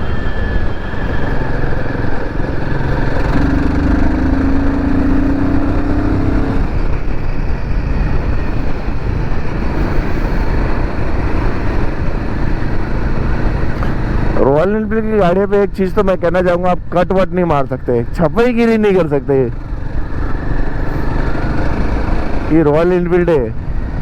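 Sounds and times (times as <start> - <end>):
motorcycle engine running: 0.0 - 17.0, 18.4 - 24.0
steady droning tone: 0.0 - 24.0.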